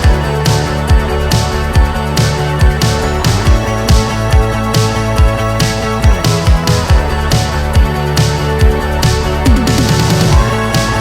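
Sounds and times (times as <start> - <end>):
guitar and synth chords: 0.0 - 11.0
kick drum beat: 0.9 - 5.4, 6.0 - 8.0, 8.6 - 11.0.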